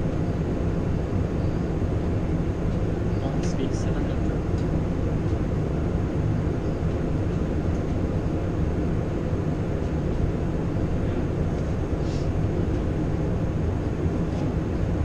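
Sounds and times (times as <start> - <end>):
engine and airflow rumble: 0.0 - 15.0.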